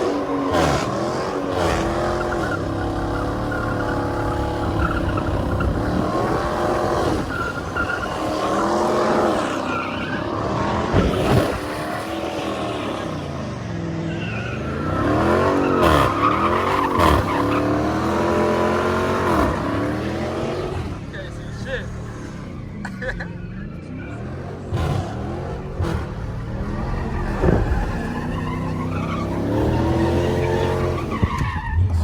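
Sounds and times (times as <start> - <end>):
car engine revving hard: 0.0 - 22.7, 24.0 - 32.0
tyres squealing: 0.0 - 32.0.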